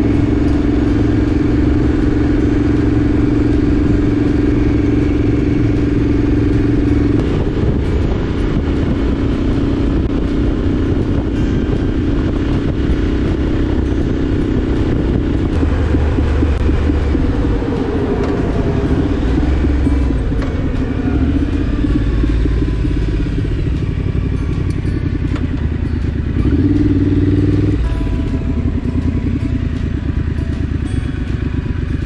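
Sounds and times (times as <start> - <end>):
motorcycle engine running: 0.0 - 32.0
road noise: 0.0 - 32.0
wind noise: 0.0 - 32.0.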